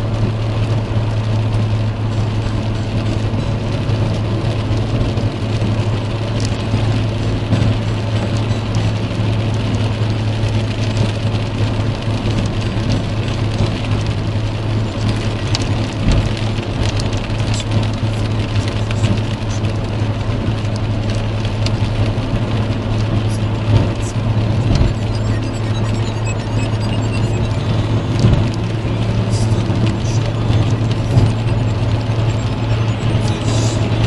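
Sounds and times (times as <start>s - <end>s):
car engine drone: 0.0s - 34.0s
heavy rain on car roof: 0.0s - 34.0s
tyres on wet road: 0.0s - 34.0s.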